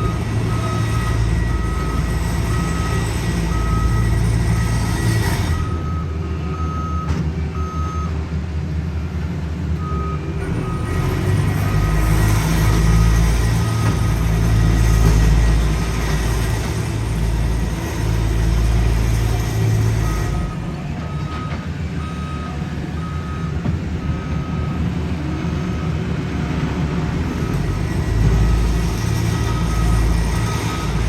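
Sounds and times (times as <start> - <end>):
reversing alarm beeping: 0.0 - 8.2, 9.8 - 26.0, 27.2 - 31.0
diesel engines rumbling: 0.0 - 31.0.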